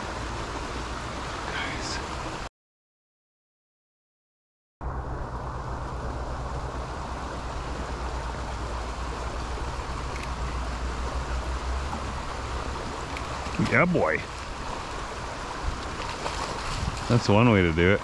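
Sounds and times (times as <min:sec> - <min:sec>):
fast-flowing creek rushing: 0:00.0 - 0:02.5, 0:05.1 - 0:18.0.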